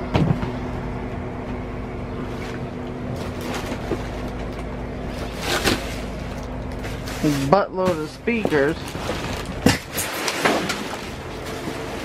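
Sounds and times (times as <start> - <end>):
items rustling and knocking: 0.0 - 0.7, 2.3 - 12.0
low machine hum: 0.0 - 12.0.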